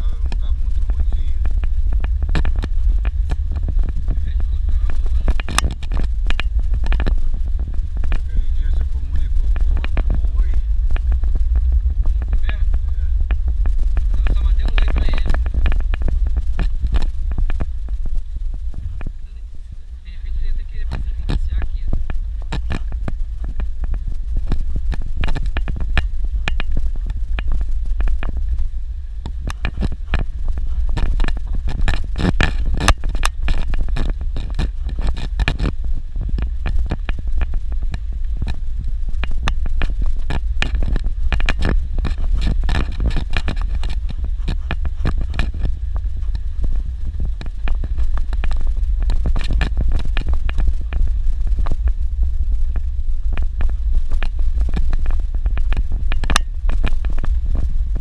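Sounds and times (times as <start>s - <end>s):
car engine and road rumble: 0.0s - 58.0s
knocks and rattles over gravel: 0.0s - 58.0s.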